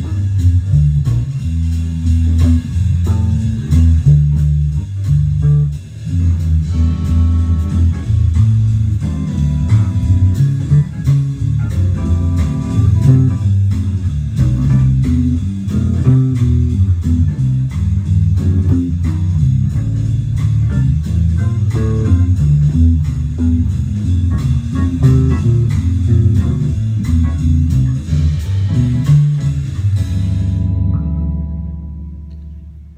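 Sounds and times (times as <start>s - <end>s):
picked guitar notes: 0.0s - 32.9s
plucked bass line: 0.0s - 32.9s.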